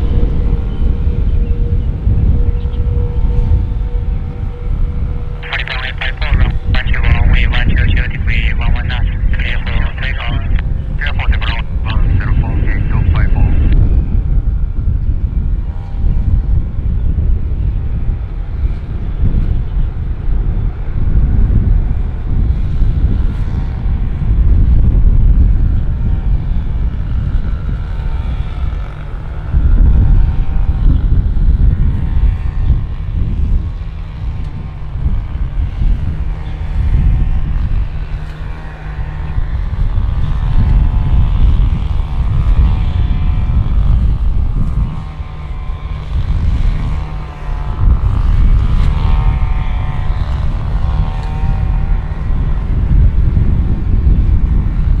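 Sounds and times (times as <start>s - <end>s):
aircraft engines droning: 0.0s - 21.2s, 25.6s - 53.6s
wind buffeting microphone: 0.0s - 55.0s.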